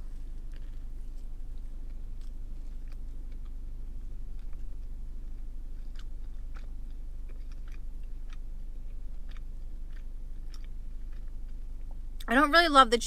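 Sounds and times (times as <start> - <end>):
steady low hum: 0.0 - 13.0
person chewing: 0.1 - 12.3.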